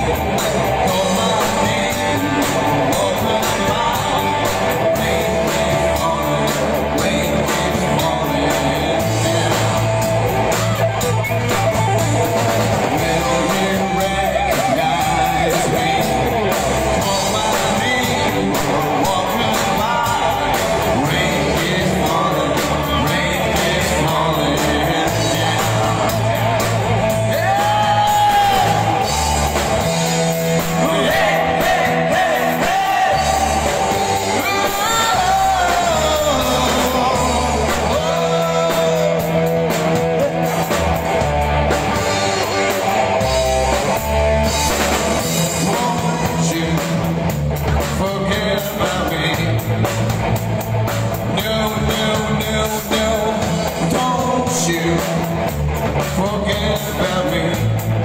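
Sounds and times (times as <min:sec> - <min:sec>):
man singing into microphone: 0:00.0 - 0:10.8, 0:12.8 - 0:29.4, 0:30.5 - 0:40.5, 0:45.2 - 0:47.2, 0:47.8 - 0:50.0, 0:51.2 - 0:58.0
drums: 0:00.0 - 0:58.0
guitars: 0:00.0 - 0:58.0.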